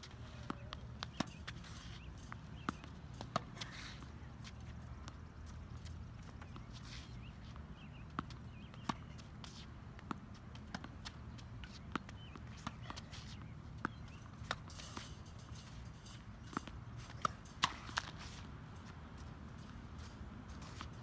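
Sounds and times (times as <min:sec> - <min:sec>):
low outdoor hum: 0:00.0 - 0:21.0
tennis balls bouncing and struck: 0:00.0 - 0:21.0.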